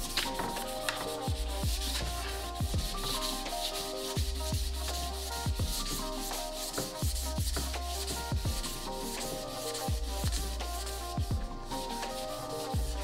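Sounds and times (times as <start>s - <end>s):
electronic music with drum beat: 0.0s - 13.0s
sandpaper rubbing wood: 0.0s - 13.0s.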